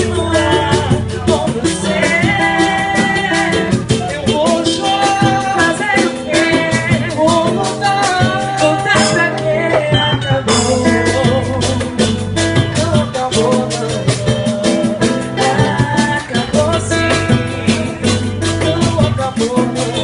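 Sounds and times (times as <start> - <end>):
samba band playing: 0.0 - 20.0.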